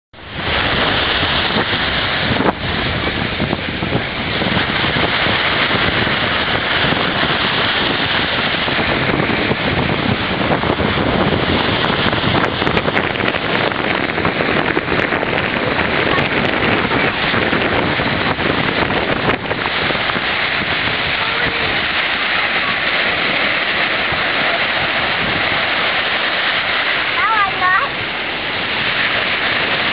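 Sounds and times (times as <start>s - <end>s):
surf washing onto beach: 0.2s - 29.9s
wind blowing across microphone: 0.2s - 29.9s.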